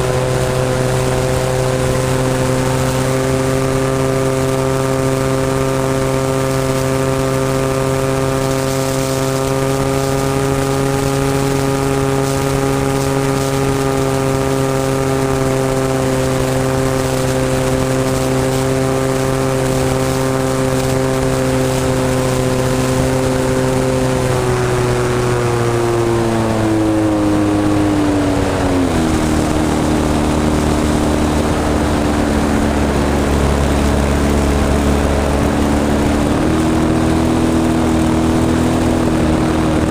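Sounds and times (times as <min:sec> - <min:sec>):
model airplane engine running: 0:00.0 - 0:39.9.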